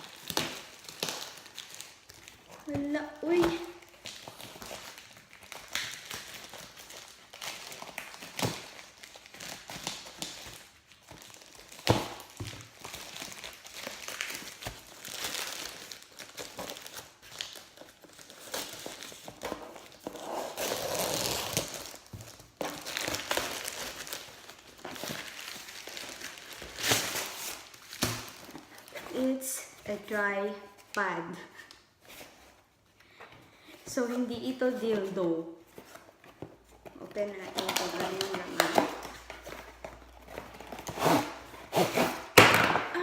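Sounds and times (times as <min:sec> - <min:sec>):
packaging crinkling: 0:00.0 - 0:30.1, 0:35.7 - 0:42.4.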